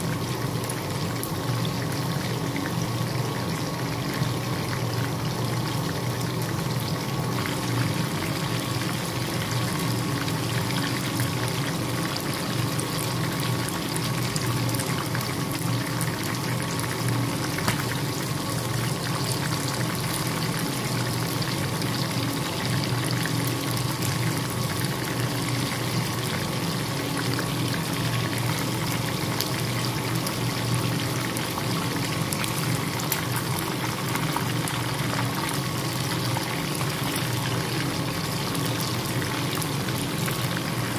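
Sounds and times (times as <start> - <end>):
wings sizzling in hot oil: 0.0 - 40.9.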